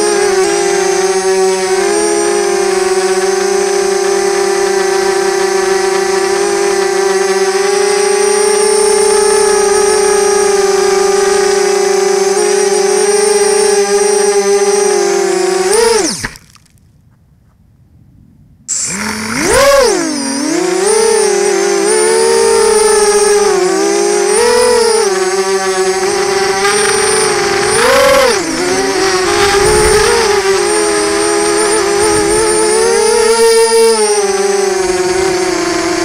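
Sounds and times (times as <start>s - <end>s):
drone propellers whining: 0.0s - 16.7s, 18.7s - 36.0s.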